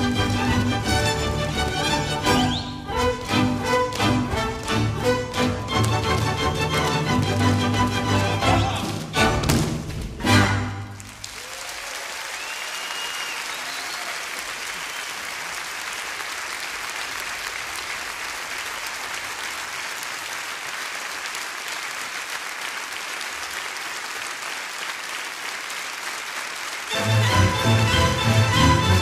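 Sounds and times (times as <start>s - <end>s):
audience applauding: 0.0s - 9.1s, 10.8s - 29.0s.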